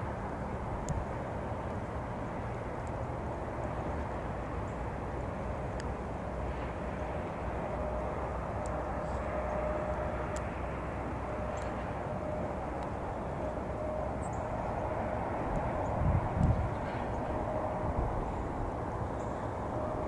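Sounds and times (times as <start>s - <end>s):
distant traffic rumble: 0.0s - 20.0s
faint steady hum: 0.0s - 20.0s.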